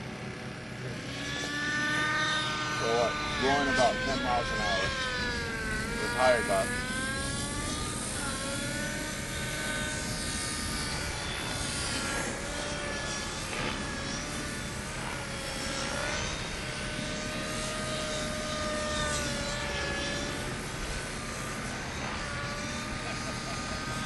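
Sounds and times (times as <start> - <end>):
rc helicopter motor whine: 0.0 - 24.0.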